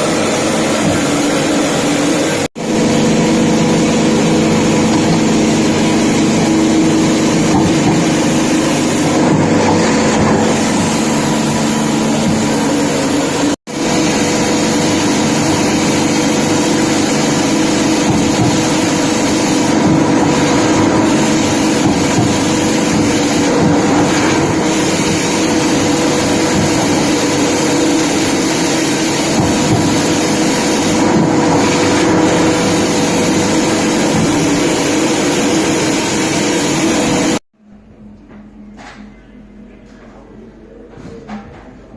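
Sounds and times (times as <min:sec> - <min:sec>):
fish gutting machine running: 0:00.0 - 0:37.4.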